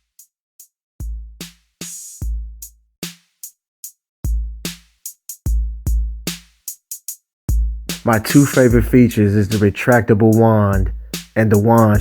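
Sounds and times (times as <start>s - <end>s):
drum machine beat: 1.0s - 3.5s, 4.2s - 12.0s.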